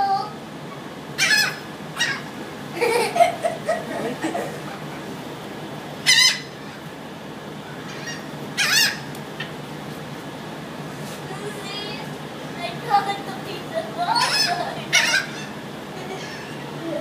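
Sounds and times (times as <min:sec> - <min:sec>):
gulls squawking: 0:00.7 - 0:09.6, 0:11.4 - 0:17.0.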